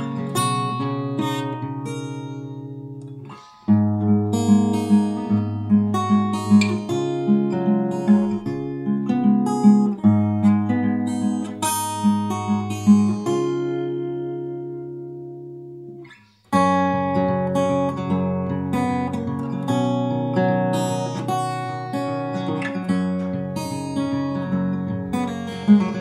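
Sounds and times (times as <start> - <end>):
picked acoustic guitar music: 0.0 - 26.0.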